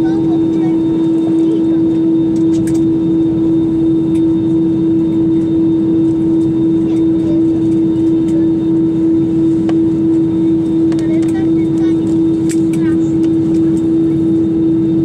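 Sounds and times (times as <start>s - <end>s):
airplane cabin rumble: 0.0s - 15.0s
steady hum tone: 0.0s - 15.0s.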